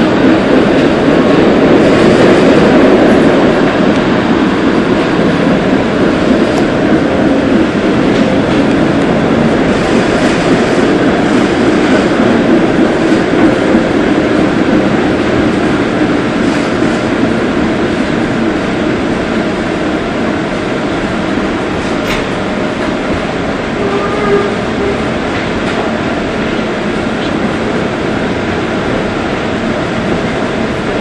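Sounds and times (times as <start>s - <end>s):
streetcar wheels rumbling on rails: 0.0s - 31.0s.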